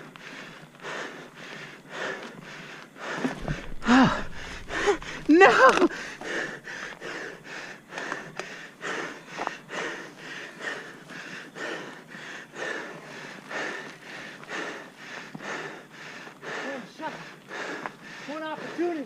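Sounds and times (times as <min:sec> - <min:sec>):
heavy hard breathing: 0:00.0 - 0:19.0.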